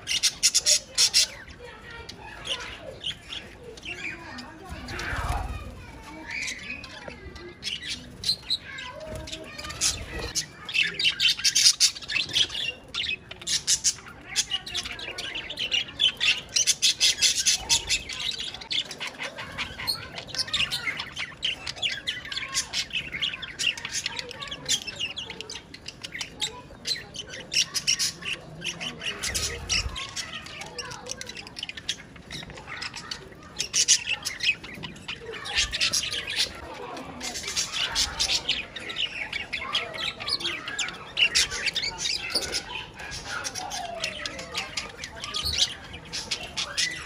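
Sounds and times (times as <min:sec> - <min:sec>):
budgerigars chattering: 0:00.0 - 0:47.0.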